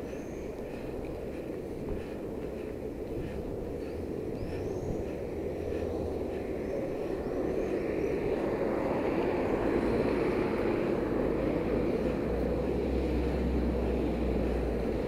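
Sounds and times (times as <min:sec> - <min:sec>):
street noise rumble: 0:00.0 - 0:15.0.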